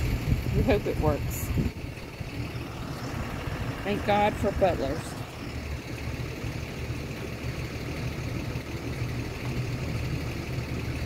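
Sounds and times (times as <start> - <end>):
tow truck engine idling: 0.0 - 11.0.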